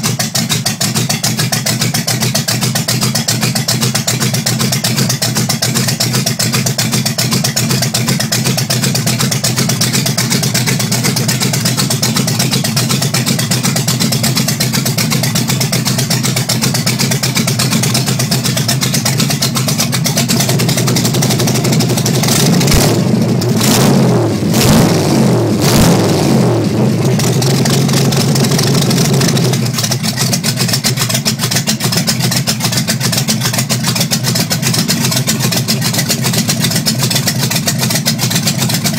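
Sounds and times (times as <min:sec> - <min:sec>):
hot rod engine idling and revving: 0:00.0 - 0:38.9.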